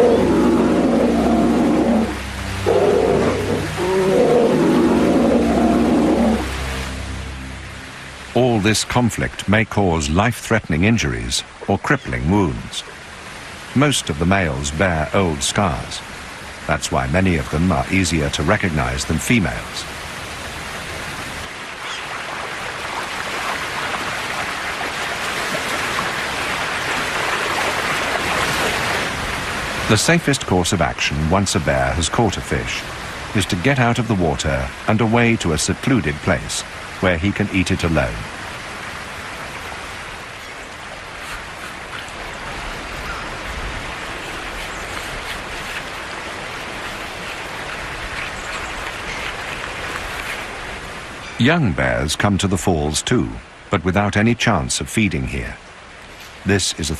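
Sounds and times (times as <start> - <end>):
rushing river water: 0.0 - 56.9.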